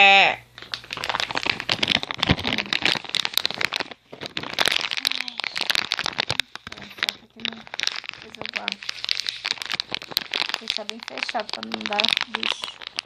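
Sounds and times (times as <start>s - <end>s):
plastic packaging crinkling: 0.5s - 13.0s.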